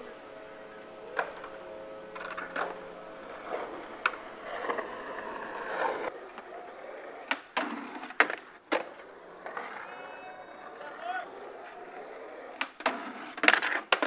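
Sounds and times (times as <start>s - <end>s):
skateboard wheels rolling on concrete: 0.0s - 14.0s
skateboard clacks: 1.1s - 14.0s.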